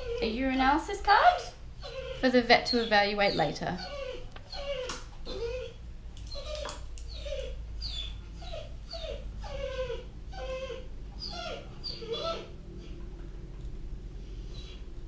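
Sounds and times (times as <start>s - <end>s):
dog whining: 0.0s - 13.1s, 14.3s - 14.9s.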